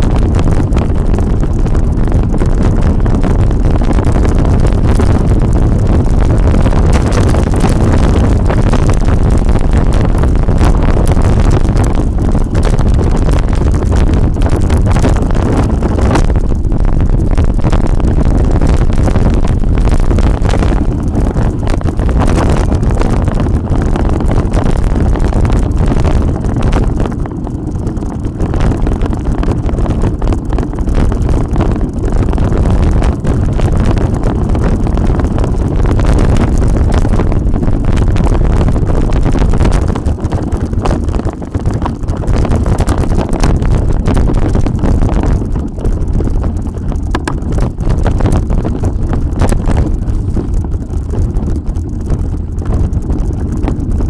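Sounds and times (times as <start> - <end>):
bike rattles and knocks: 0.0 - 54.0
bike tyres rumbling on dirt: 0.0 - 54.0
wind buffeting microphone: 0.0 - 54.0.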